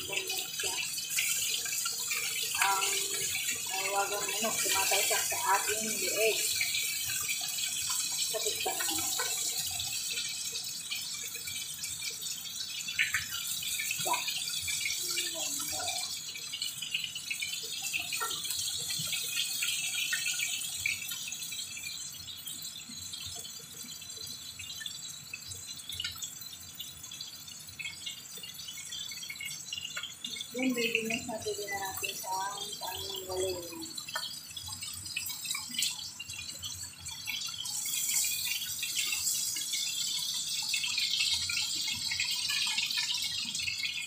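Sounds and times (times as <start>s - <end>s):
chicken sizzling in oil: 0.0s - 44.0s.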